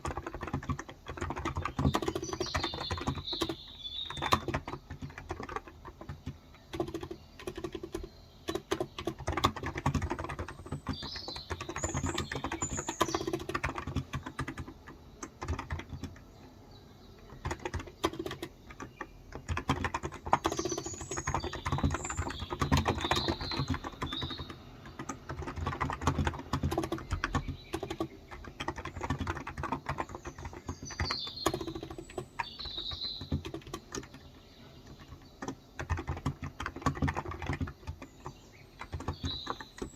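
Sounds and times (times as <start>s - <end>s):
birds chirping: 0.0s - 39.9s
typing on keyboard: 0.0s - 39.9s.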